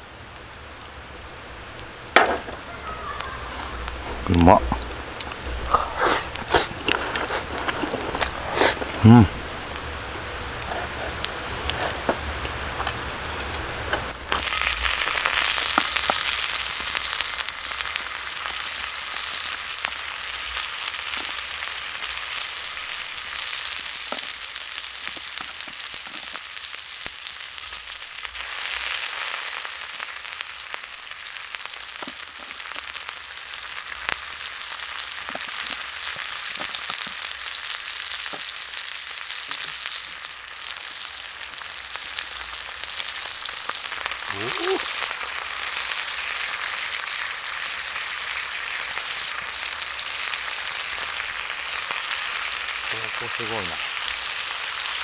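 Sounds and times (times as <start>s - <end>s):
meat sizzling on iron plate: 0.0s - 55.0s.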